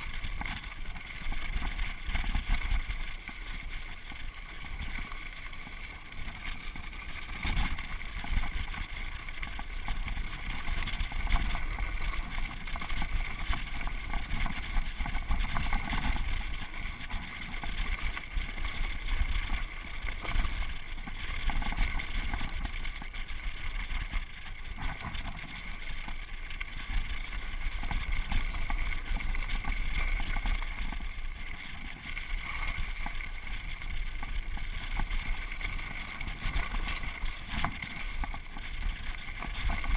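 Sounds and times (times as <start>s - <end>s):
bike frame rattling: 0.0s - 39.9s
tyres rolling on loose dirt: 0.0s - 39.9s.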